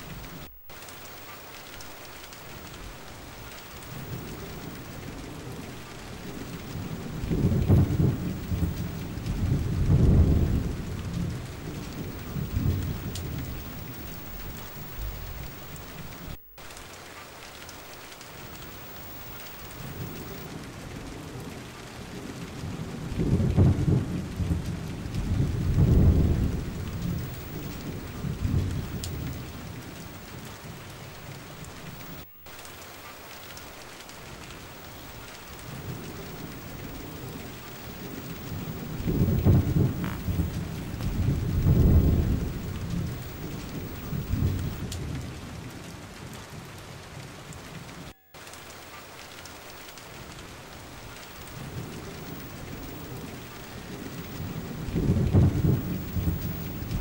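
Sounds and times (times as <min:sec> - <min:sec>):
steady rain falling: 0:00.0 - 0:57.0
rolling thunder: 0:02.5 - 0:16.4, 0:17.7 - 0:21.5, 0:22.2 - 0:32.3, 0:34.1 - 0:45.7, 0:50.2 - 0:57.0.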